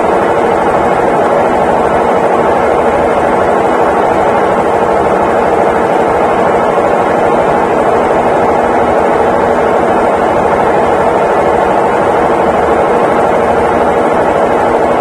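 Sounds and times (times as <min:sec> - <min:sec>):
washing machine drum spinning: 0:00.0 - 0:15.0.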